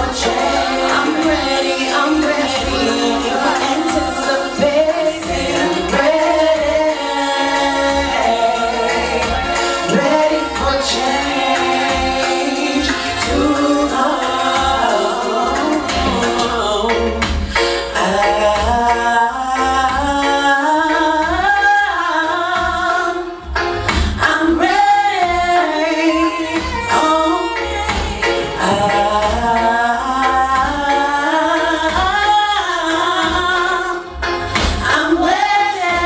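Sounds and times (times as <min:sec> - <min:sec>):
music: 0:00.0 - 0:36.0
woman singing into microphone: 0:00.0 - 0:36.0.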